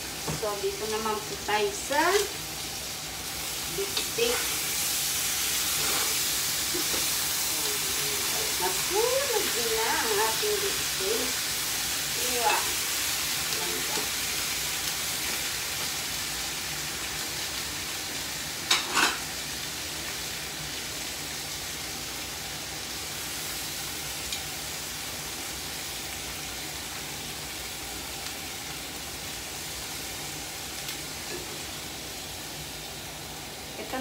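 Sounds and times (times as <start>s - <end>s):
meat sizzling in a frying pan: 0.0s - 34.0s.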